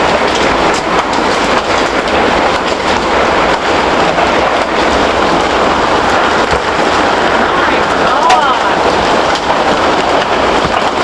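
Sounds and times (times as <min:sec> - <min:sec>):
hailstones pelting down: 0:00.0 - 0:11.0.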